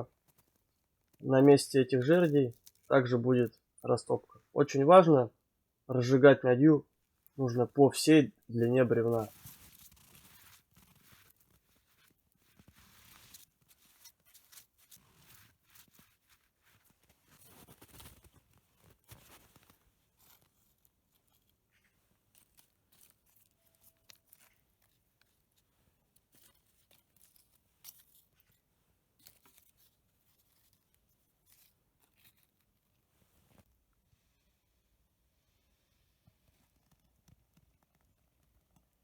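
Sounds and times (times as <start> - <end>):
faint crackles and rustles: 0.0 - 4.5, 6.9 - 39.0.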